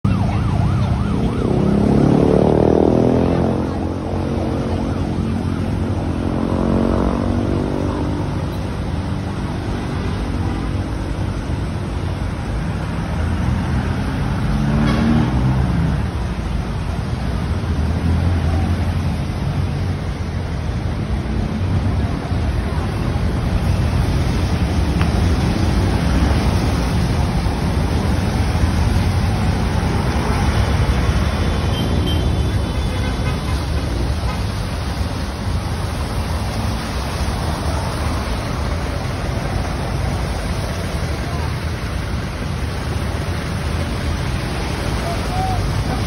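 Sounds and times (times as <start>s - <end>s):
low traffic rumble: 0.0s - 46.0s
vehicles passing by: 0.0s - 46.0s.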